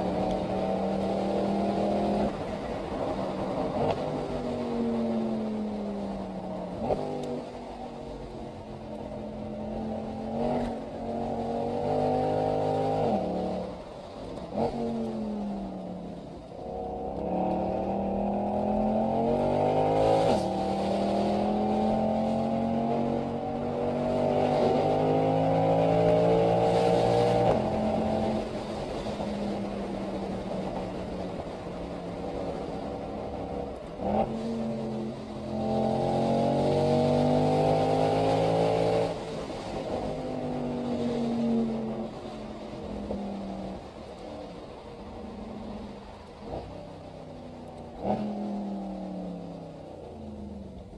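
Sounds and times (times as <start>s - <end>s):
car engine accelerating through gears: 0.0s - 50.9s.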